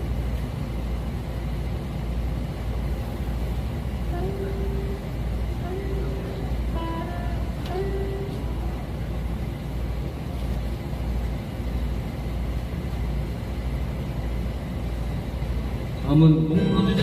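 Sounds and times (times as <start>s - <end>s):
street ambience low rumble: 0.0s - 17.0s.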